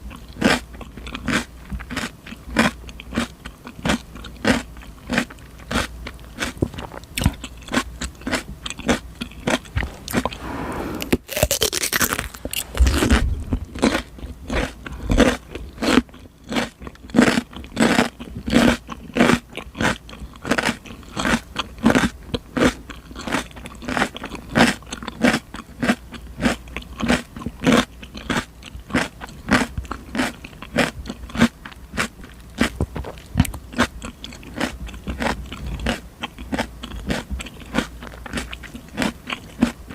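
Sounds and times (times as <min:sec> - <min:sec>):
chewing crisp cucumber: 0:00.0 - 0:10.4, 0:11.0 - 0:39.9.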